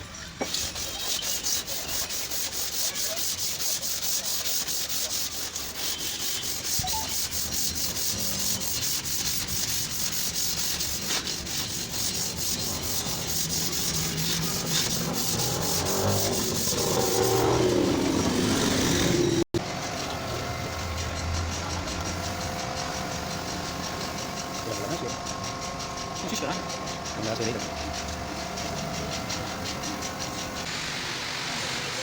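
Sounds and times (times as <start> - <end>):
sanding car bodywork: 0.2 - 30.7.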